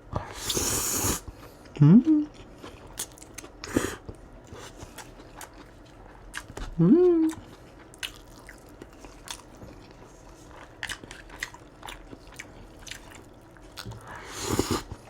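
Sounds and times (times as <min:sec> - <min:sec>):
person chewing food: 0:00.2 - 0:15.0.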